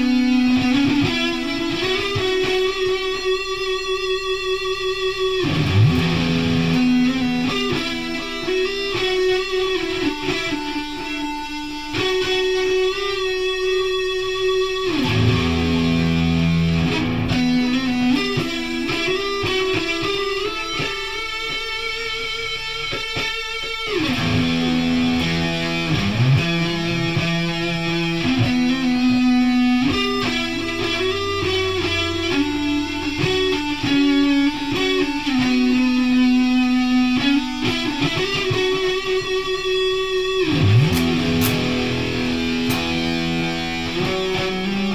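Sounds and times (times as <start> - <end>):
electric guitar with sliding notes: 0.0 - 44.9.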